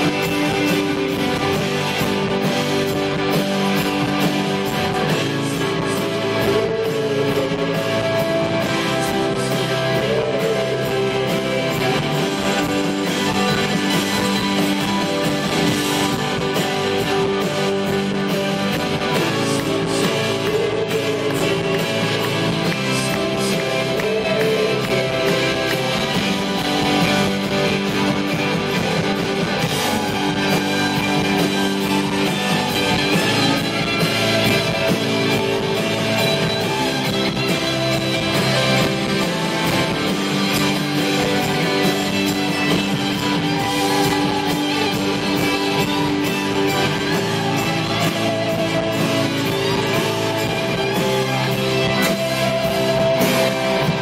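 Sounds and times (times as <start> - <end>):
live rock band with electric guitars: 0.0 - 54.0.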